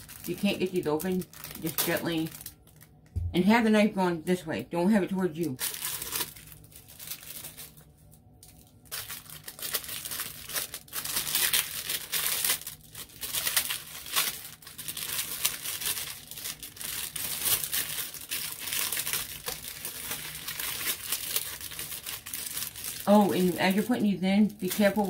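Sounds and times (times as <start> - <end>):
plastic bag crinkling: 0.0 - 3.1, 5.4 - 25.0.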